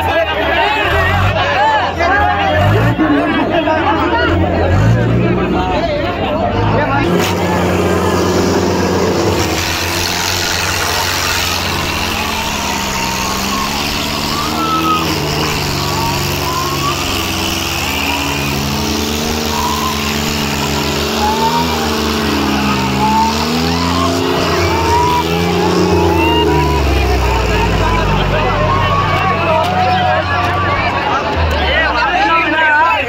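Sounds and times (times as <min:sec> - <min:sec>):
crowd shouting: 0:00.0 - 0:33.0
tractor diesel engines labouring: 0:00.0 - 0:33.0.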